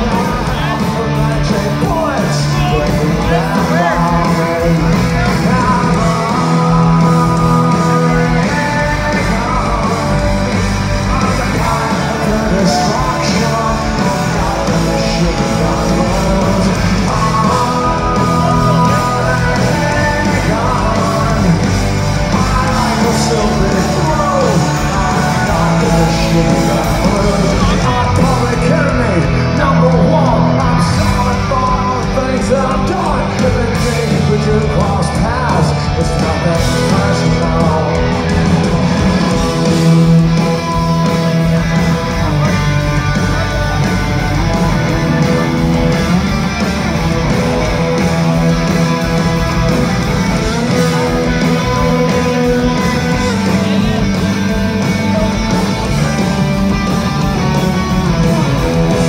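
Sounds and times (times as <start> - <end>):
bass: 0.0 - 59.0
drums: 0.0 - 59.0
electric guitars: 0.0 - 59.0
person singing lead vocal: 0.0 - 59.0.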